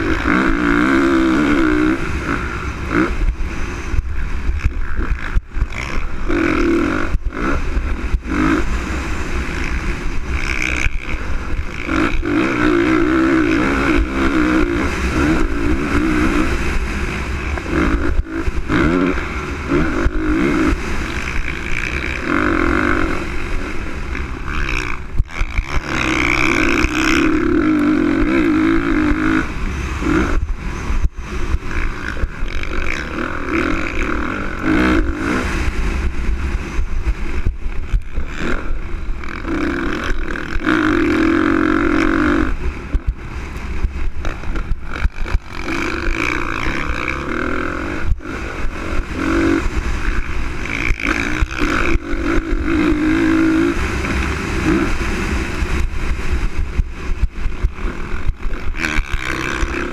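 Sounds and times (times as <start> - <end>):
motorcycle engine revving: 0.0 - 59.9
wind rumbling on microphone: 0.0 - 59.9.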